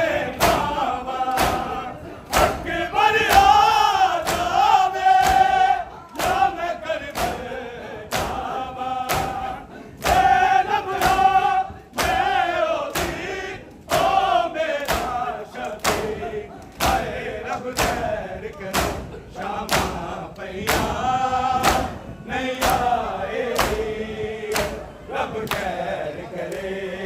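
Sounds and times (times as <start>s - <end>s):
crowd beating chests: 0.0s - 26.7s
men chanting a lament: 0.0s - 27.0s.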